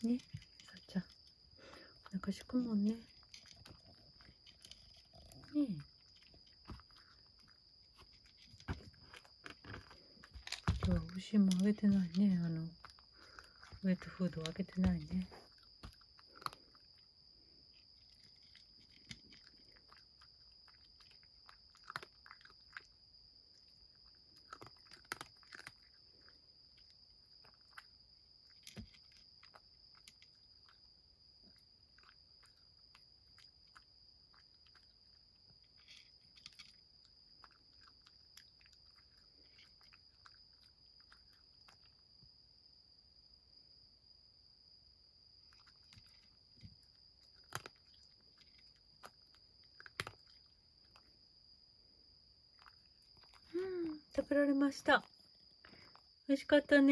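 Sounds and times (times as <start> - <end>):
cat crunching dry kibble: 0.0 - 42.1, 45.5 - 51.2, 52.5 - 54.2
faint high-pitched whine: 0.0 - 56.9.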